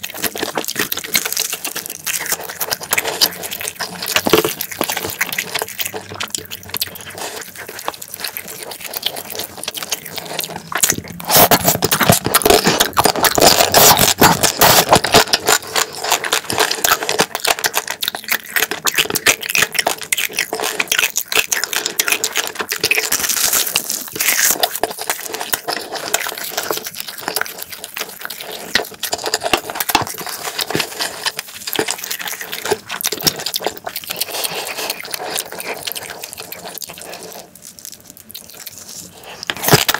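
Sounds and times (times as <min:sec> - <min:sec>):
wet chewing and lip-smacking: 0:00.0 - 0:39.9.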